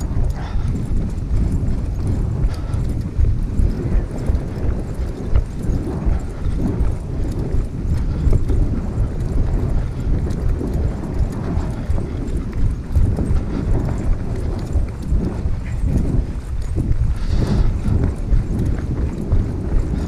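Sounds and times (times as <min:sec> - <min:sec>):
footsteps running on a trail: 0:00.0 - 0:20.0.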